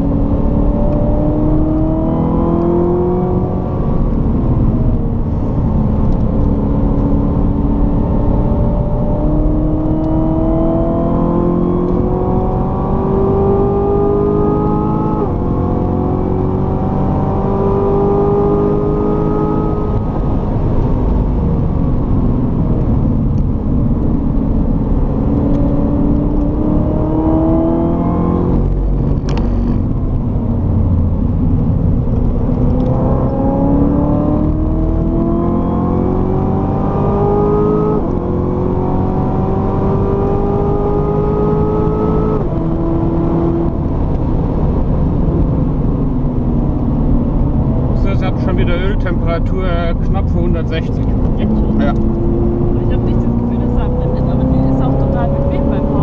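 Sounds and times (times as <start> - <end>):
car engine pulling hard: 0.0 - 56.0.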